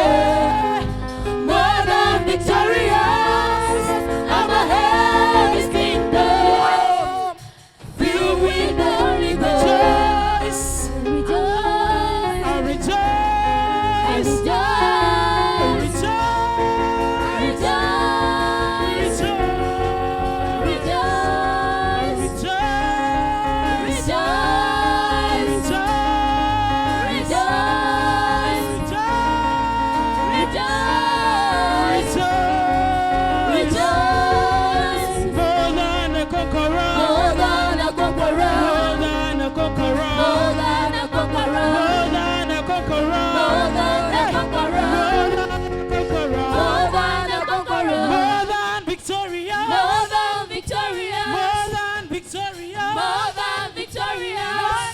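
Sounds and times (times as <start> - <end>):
gospel singers: 0.0 - 54.9.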